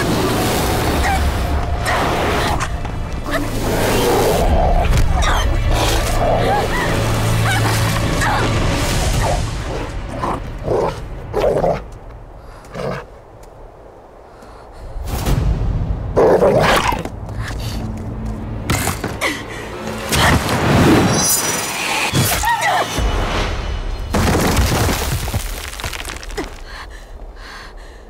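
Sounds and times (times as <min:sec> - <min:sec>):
dramatic film score: 0:00.0 - 0:28.0.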